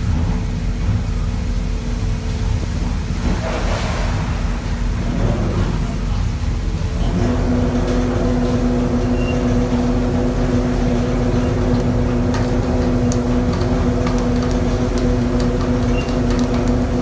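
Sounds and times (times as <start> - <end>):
machinery droning hum: 0.0 - 17.0.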